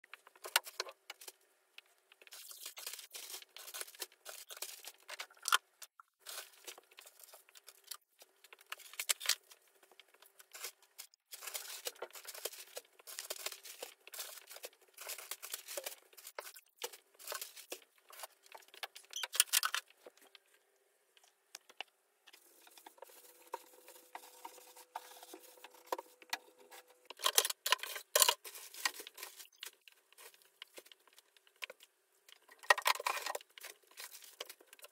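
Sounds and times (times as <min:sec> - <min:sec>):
material rustling and crinkling: 0:00.1 - 0:34.9.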